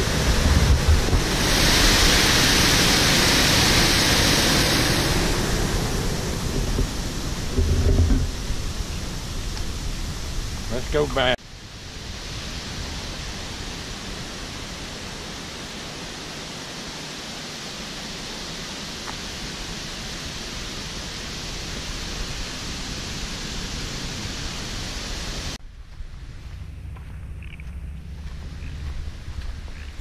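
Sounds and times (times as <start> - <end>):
water rushing over rocks: 0.0 - 25.6.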